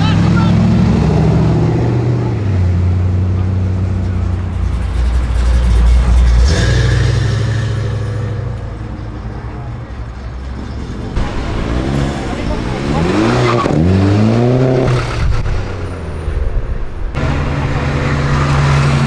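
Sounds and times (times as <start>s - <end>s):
truck exhaust rumble: 0.0s - 19.0s.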